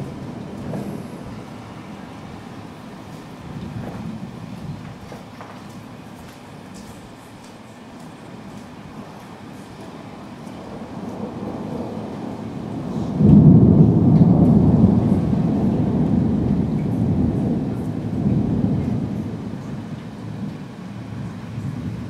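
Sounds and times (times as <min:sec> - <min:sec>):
thunder rumbling: 0:00.0 - 0:06.2, 0:08.3 - 0:22.0.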